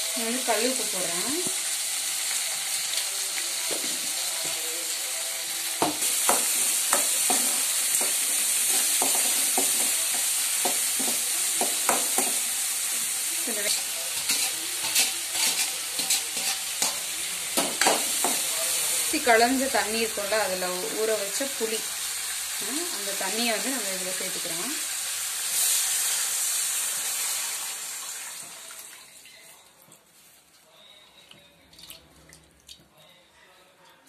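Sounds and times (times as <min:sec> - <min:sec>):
vegetables sizzling in hot oil: 0:00.0 - 0:28.7.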